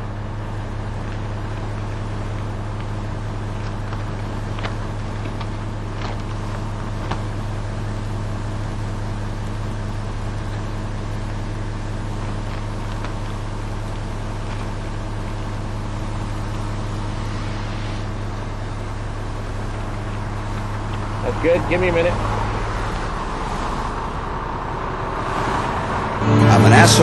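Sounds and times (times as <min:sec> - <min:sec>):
diesel truck engine idling: 0:00.0 - 0:27.0.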